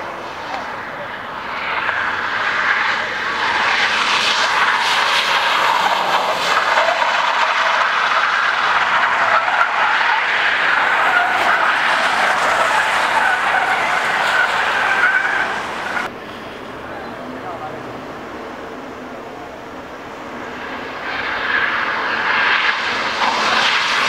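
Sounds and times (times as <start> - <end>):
car tyres screeching: 0.0 - 24.0.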